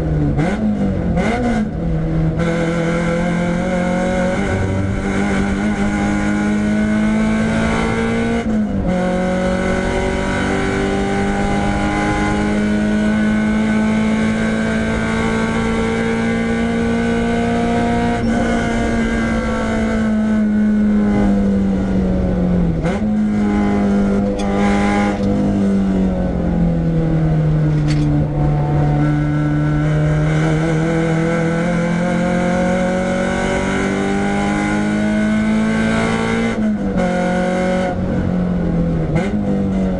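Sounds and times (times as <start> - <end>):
car engine revving hard: 0.1 - 39.9.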